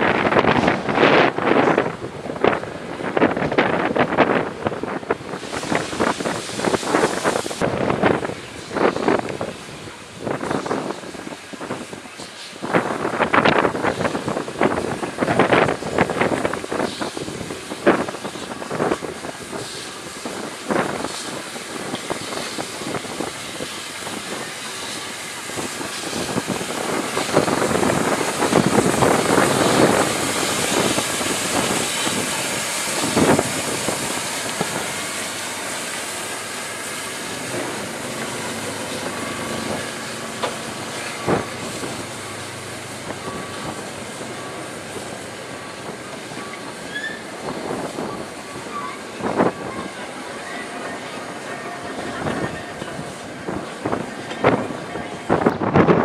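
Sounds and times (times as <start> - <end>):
locomotive moving slowly: 0.0 - 56.0
steam hissing: 2.5 - 56.0.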